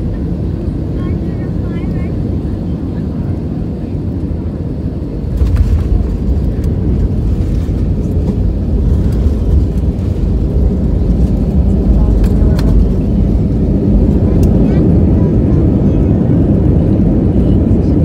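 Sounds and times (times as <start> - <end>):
jet airliner rumble in cabin: 0.0 - 18.0.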